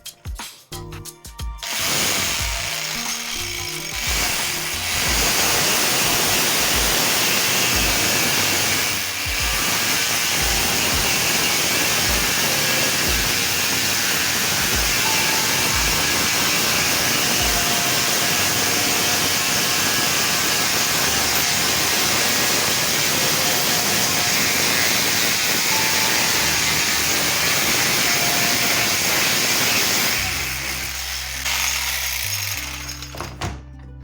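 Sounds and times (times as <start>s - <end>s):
music: 0.0s - 34.0s
angle grinder running: 1.6s - 33.1s.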